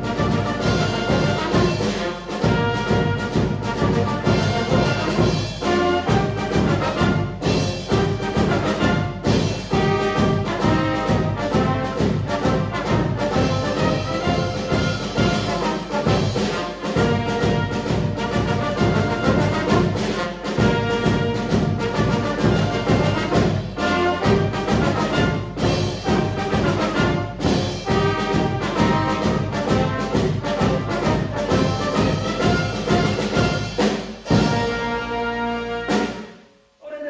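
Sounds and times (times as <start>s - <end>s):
brass band with drums playing: 0.0s - 36.6s.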